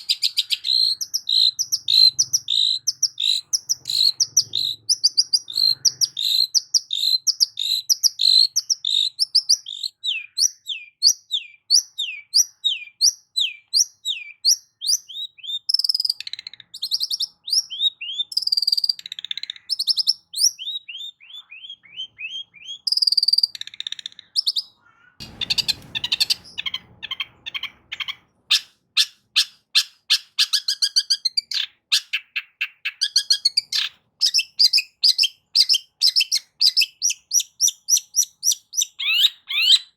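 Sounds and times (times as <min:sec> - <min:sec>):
harsh grating bird call: 0:00.0 - 0:14.3, 0:14.9 - 0:39.9.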